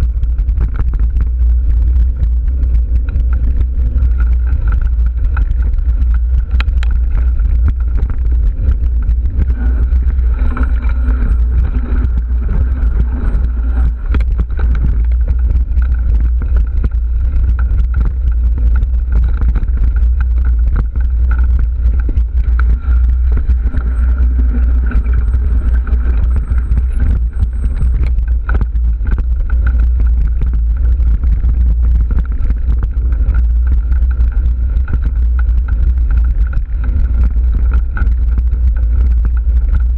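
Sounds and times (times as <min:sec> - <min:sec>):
bike rattling over dirt trail: 0:00.0 - 0:39.9
wind rumble on microphone: 0:00.0 - 0:39.9.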